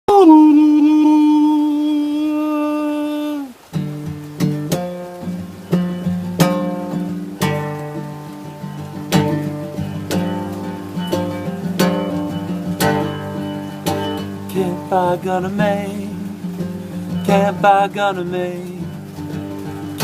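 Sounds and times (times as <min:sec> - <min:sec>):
acoustic guitar strumming: 0:00.1 - 0:20.0.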